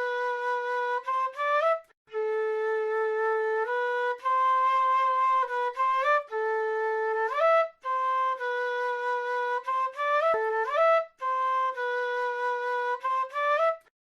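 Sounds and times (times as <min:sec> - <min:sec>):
flute playing slow melody: 0:00.0 - 0:13.9.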